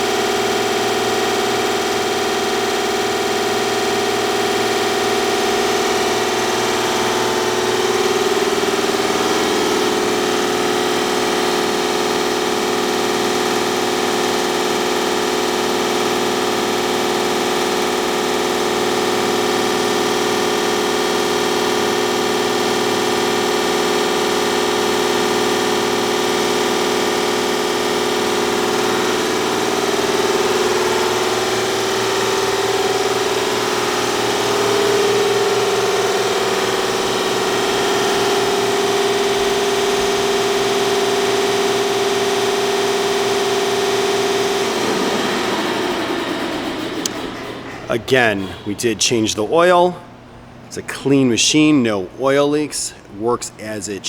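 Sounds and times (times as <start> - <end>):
air compressor running: 0.0 - 51.0.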